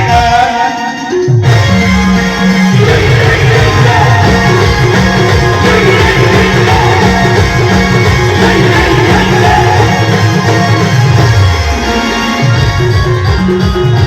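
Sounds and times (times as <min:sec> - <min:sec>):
loud band music: 0:00.0 - 0:14.0.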